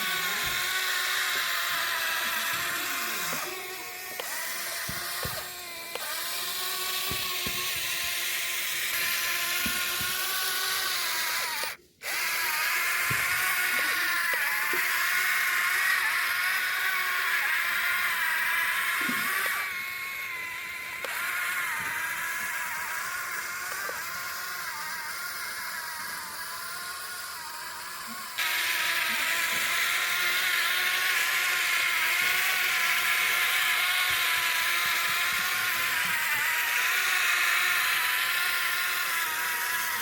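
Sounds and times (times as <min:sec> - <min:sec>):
toy excavator motors whining: 0:00.0 - 0:40.0.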